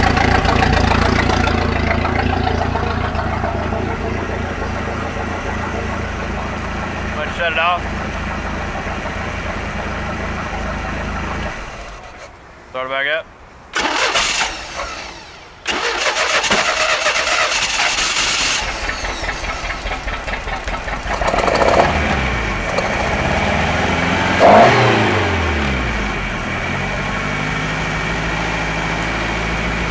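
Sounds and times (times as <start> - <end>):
boat engine cranking and idling: 0.0 - 12.7, 13.6 - 29.9.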